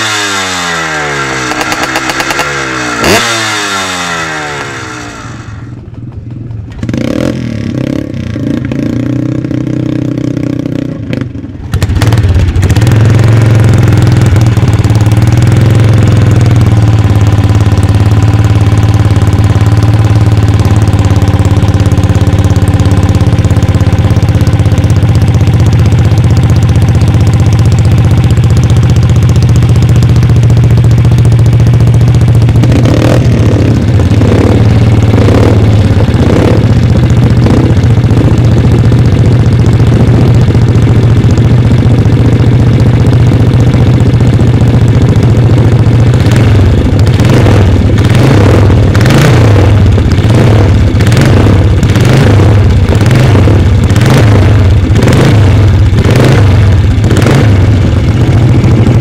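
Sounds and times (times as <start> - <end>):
dirt bike engine running: 0.0 - 59.0
motorcycle engine running loud: 0.0 - 59.0.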